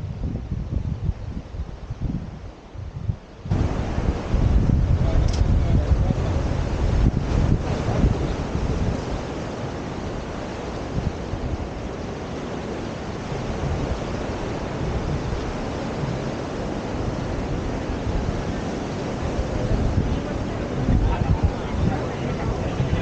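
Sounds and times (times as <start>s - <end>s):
sea surf washing: 0.0s - 23.0s
wind on microphone: 0.0s - 23.0s.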